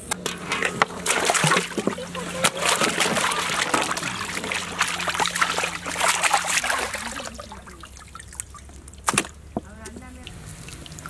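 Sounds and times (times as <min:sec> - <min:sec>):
water splashing in a pot: 0:00.3 - 0:09.4, 0:10.2 - 0:11.0.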